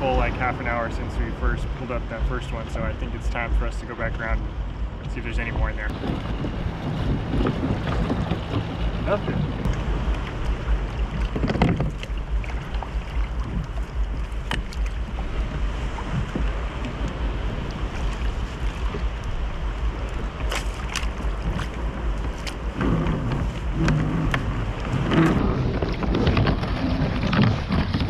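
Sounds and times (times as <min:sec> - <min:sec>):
water sloshing around kayak: 0:00.0 - 0:28.0
wind rumbling on microphone: 0:00.0 - 0:28.0.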